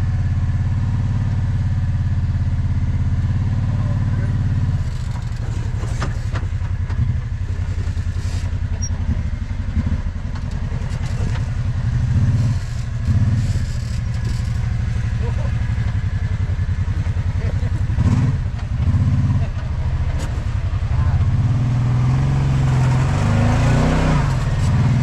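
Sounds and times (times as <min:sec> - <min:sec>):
off-road vehicle engine at low revs: 0:00.0 - 0:25.0
engine throttle surges: 0:03.5 - 0:25.0.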